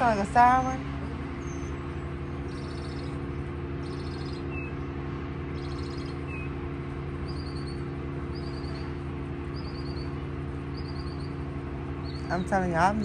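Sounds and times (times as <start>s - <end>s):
low machine hum: 0.0s - 13.0s
songbird calling: 0.0s - 13.0s.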